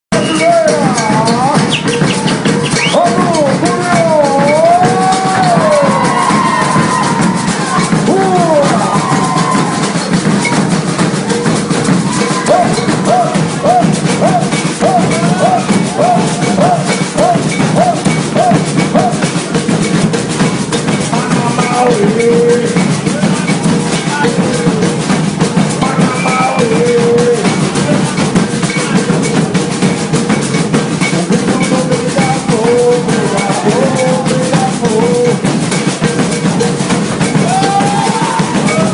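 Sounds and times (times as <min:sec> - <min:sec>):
bass drums: 0:00.1 - 0:38.9
snare drums: 0:00.1 - 0:38.9.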